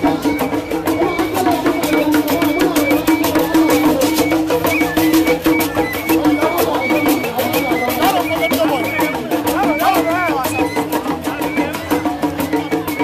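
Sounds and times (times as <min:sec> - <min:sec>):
hand drums beating fast: 0:00.0 - 0:13.0.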